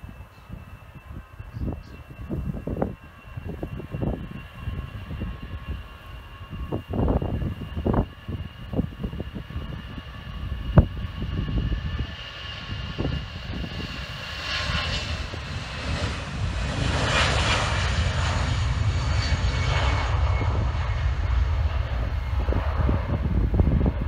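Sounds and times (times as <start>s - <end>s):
jet engines whining and rumbling: 0.0s - 24.0s.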